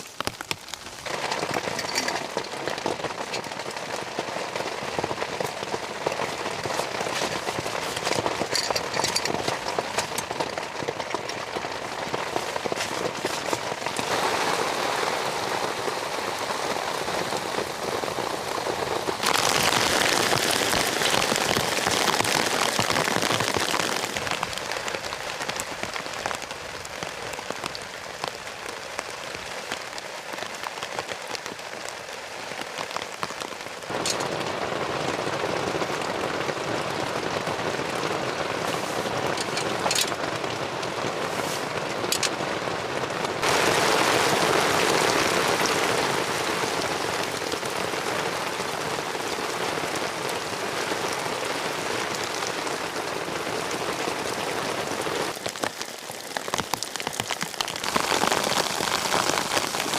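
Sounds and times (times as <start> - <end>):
raindrop ticks: 0.0 - 14.3, 16.9 - 59.9
steady rain falling: 0.0 - 59.9.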